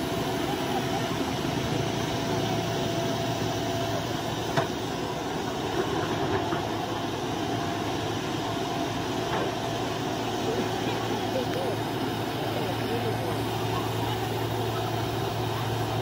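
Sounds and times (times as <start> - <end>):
diesel excavator engines running: 0.0 - 16.0.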